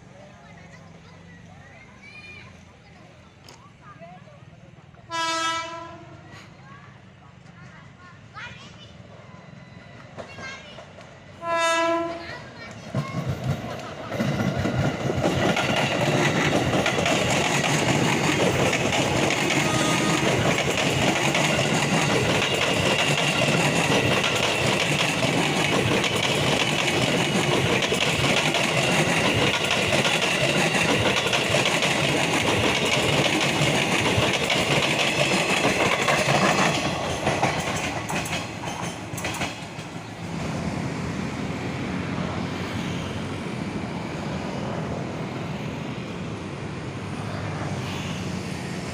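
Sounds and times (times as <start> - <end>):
electric train passing: 0.0 - 48.9.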